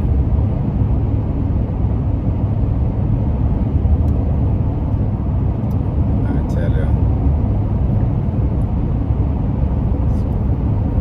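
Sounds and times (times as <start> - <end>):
low rumble of moving vehicle: 0.0 - 11.0.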